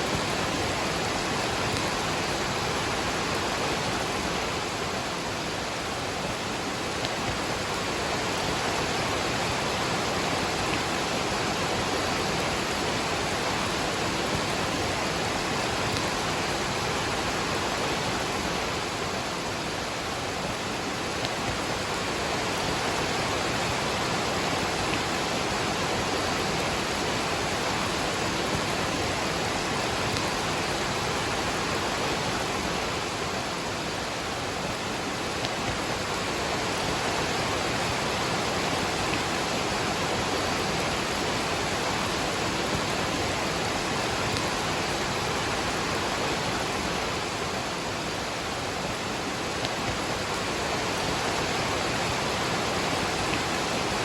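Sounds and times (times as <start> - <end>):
rain falling: 0.0 - 54.0
waterfall roaring: 0.0 - 54.0.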